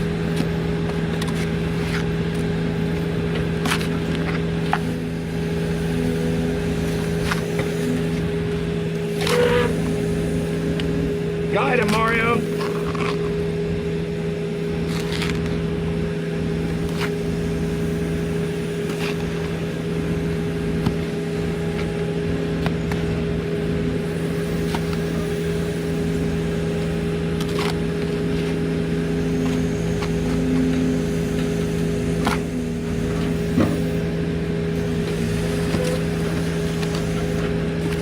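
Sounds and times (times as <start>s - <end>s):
heavy equipment engine running: 0.0s - 38.0s.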